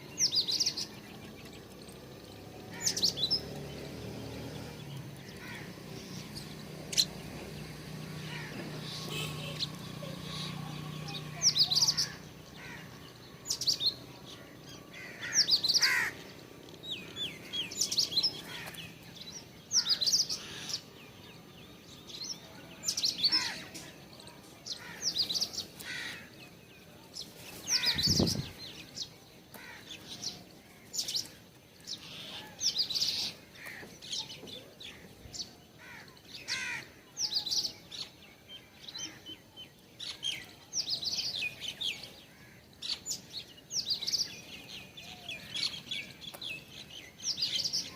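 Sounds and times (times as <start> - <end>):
small songbirds chirping: 0.0 - 47.9.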